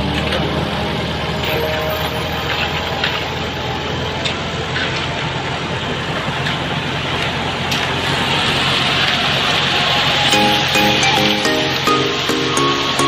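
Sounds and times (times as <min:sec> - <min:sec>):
heavy machinery engine running: 0:00.0 - 0:13.0.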